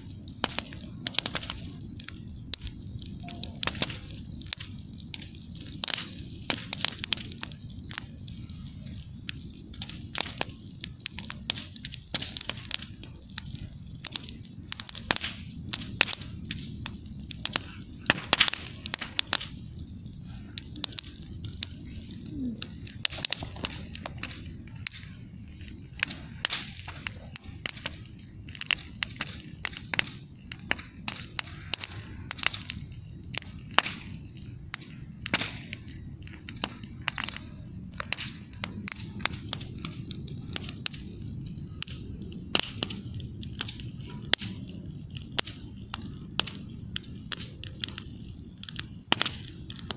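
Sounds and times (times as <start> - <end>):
low rush of flames: 0.0 - 49.9
wood crackling and popping: 0.0 - 49.9.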